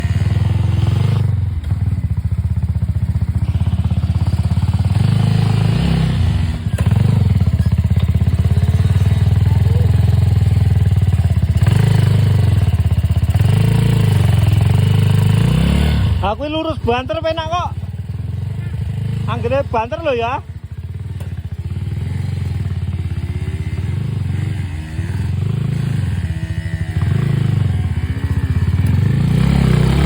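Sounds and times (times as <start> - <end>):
dirt bike engine running hard: 0.0 - 30.0.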